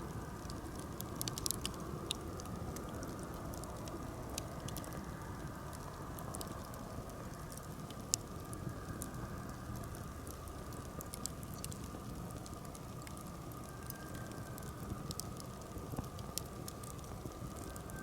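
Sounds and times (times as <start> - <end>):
campfire crackling: 0.0 - 18.0
low background noise: 0.0 - 18.0.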